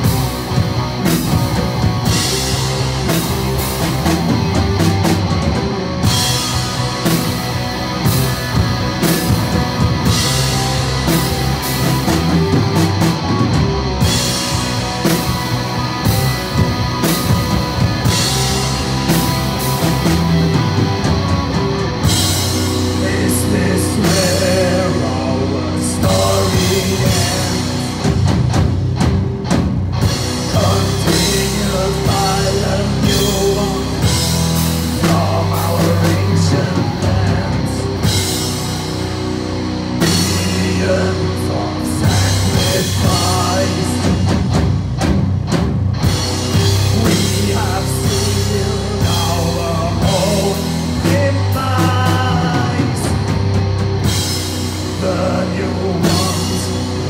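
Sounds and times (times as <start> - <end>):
doom metal band playing: 0.0 - 57.0.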